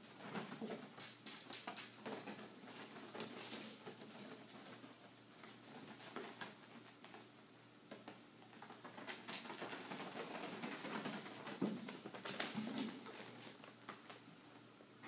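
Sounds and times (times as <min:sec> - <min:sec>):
kittens scampering on plastic: 0:00.1 - 0:07.3, 0:07.9 - 0:14.3.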